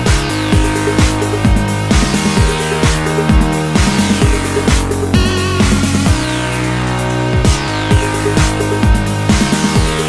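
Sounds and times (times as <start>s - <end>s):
deep kick drums: 0.0s - 6.5s, 7.2s - 10.0s
held synth notes: 0.0s - 10.0s.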